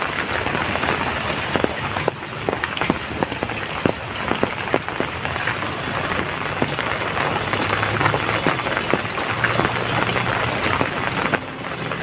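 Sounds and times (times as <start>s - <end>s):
heavy rain hissing: 0.0s - 12.0s
large raindrops hitting a surface: 0.0s - 12.0s.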